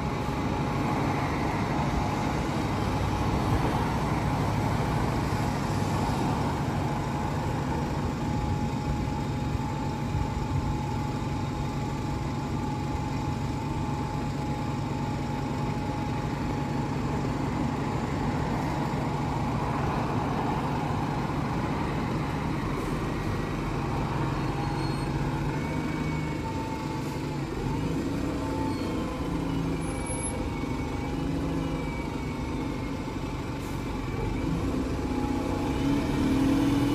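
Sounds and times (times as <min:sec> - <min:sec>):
bus engine idling: 0:00.0 - 0:36.9.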